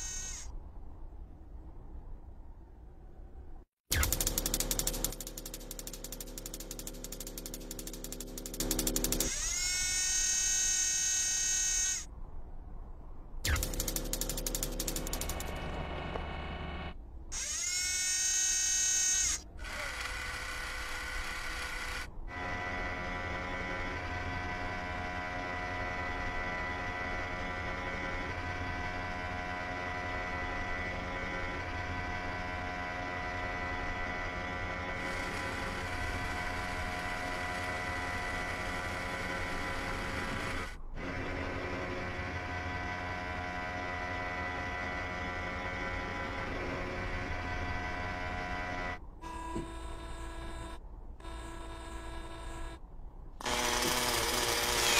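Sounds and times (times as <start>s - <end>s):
robotic arm motors whirring: 0.0s - 0.5s, 3.9s - 12.1s, 13.4s - 52.8s, 53.4s - 54.9s.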